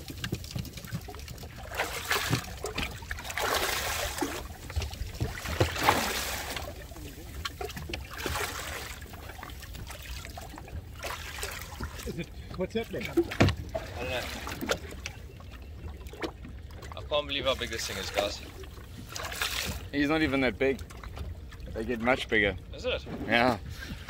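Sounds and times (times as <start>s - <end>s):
water lapping beside boat: 0.0s - 24.0s.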